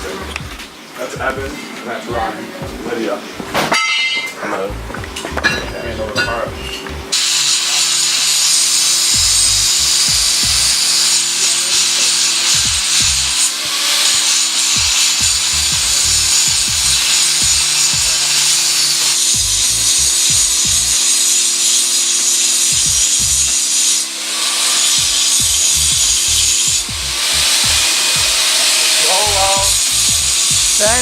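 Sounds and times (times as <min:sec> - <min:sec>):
power tool grinding: 0:00.0 - 0:31.0.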